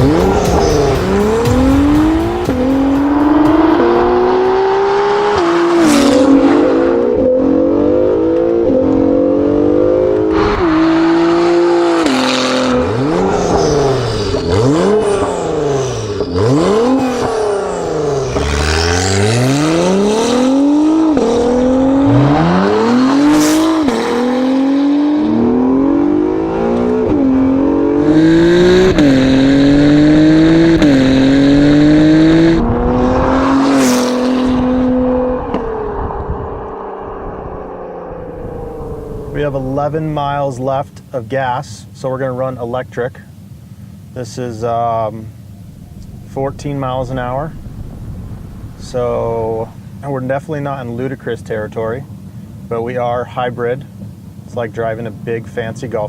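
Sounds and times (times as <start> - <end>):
sports car engine accelerating: 0.0 - 40.4, 45.2 - 50.1.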